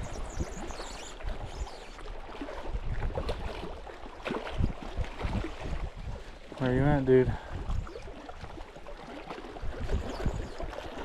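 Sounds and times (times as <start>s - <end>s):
water lapping at shore: 0.0s - 11.0s.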